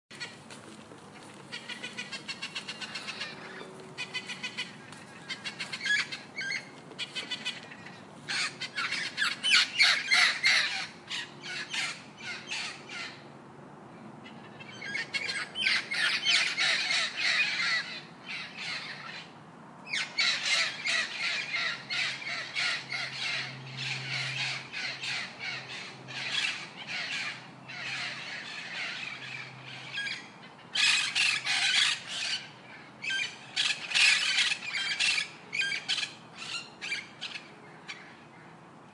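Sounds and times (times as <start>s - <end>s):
birds squawking harshly: 0.1s - 13.3s, 14.2s - 38.4s.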